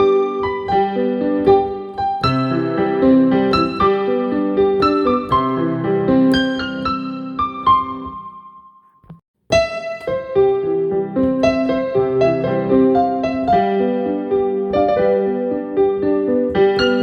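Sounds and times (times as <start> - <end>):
piano notes: 0.0 - 17.0.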